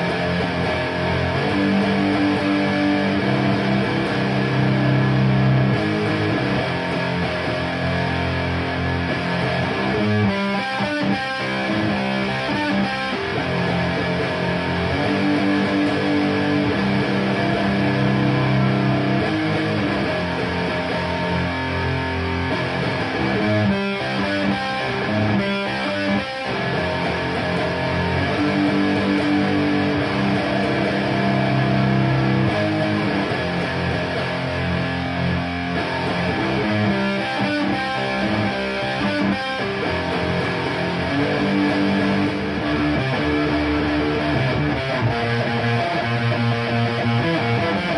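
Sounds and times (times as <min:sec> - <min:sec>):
electric guitar rock riffs: 0:00.0 - 0:47.9.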